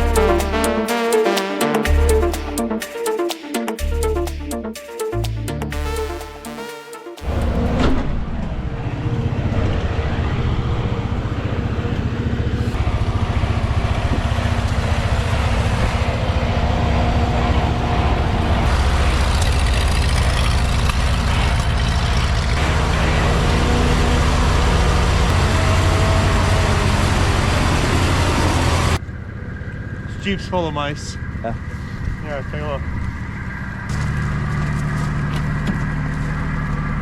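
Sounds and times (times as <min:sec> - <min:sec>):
motor vehicle engine rumbling: 0:00.0 - 0:01.0, 0:07.2 - 0:37.0.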